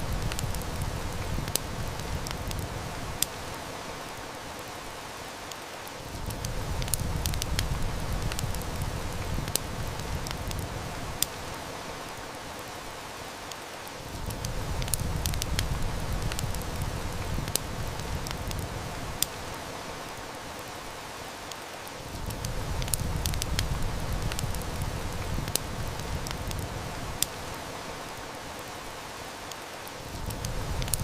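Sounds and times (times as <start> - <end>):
rain hiss: 0.0 - 31.0
wood fire crackling: 0.0 - 31.0.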